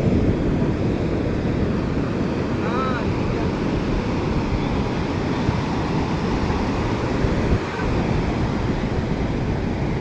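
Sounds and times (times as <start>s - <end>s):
sea surf washing on beach: 0.0s - 10.0s
wind buffeting microphone: 0.0s - 10.0s.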